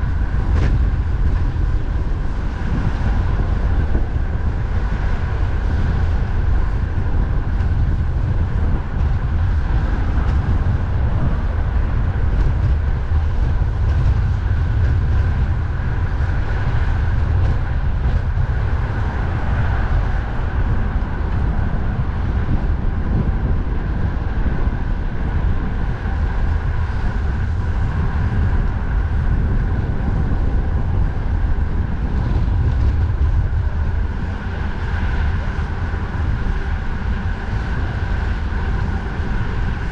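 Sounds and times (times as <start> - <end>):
road traffic: 0.0 - 39.9
wind rumble on microphone: 0.0 - 39.9.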